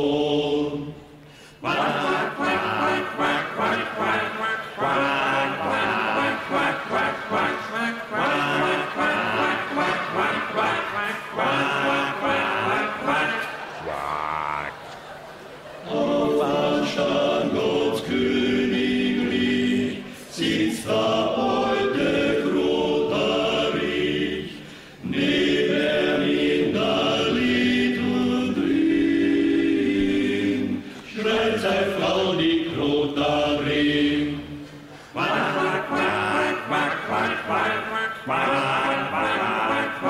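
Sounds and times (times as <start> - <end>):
male a cappella group singing: 0.0 - 13.8, 15.8 - 40.0.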